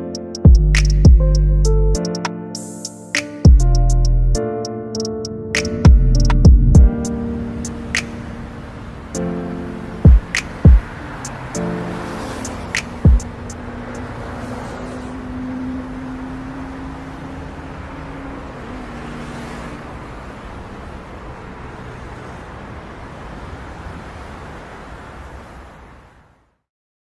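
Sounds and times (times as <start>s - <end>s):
passing vehicles: 2.6s - 26.4s.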